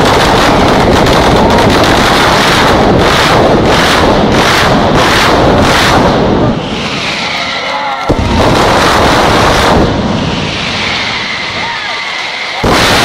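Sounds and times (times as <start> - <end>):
firecrackers banging: 0.0 - 13.0
sharp firecracker crack: 0.0 - 13.0.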